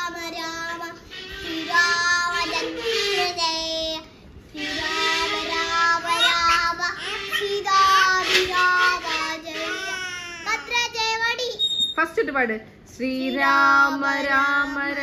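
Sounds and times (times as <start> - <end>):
child singing: 0.0 - 11.0, 13.2 - 15.0.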